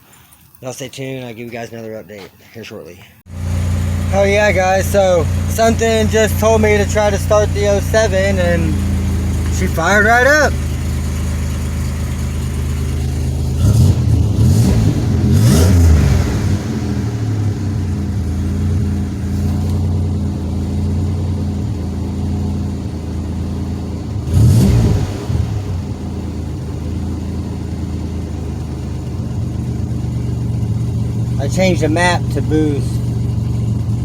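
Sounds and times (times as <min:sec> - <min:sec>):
car engine idling and revving: 0:03.3 - 0:34.0.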